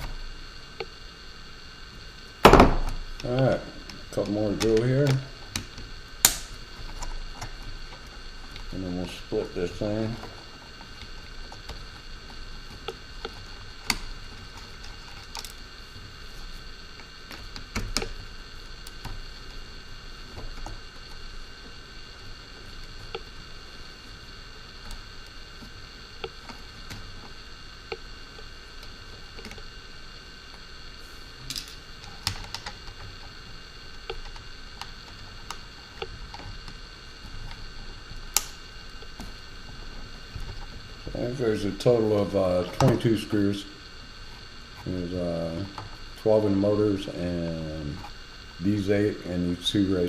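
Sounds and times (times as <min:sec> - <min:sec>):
faint electrical whine: 0:00.0 - 0:50.0.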